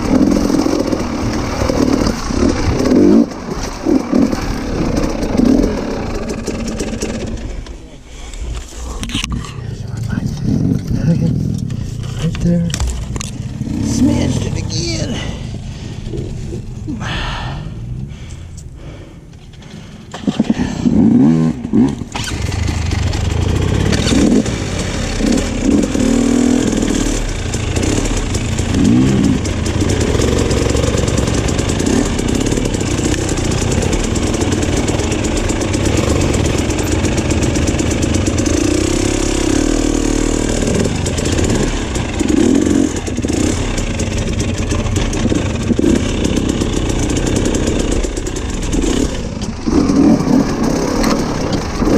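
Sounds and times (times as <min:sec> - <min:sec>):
motorcycle engine revving: 0:00.0 - 0:07.9, 0:09.9 - 0:18.2, 0:20.1 - 0:51.9.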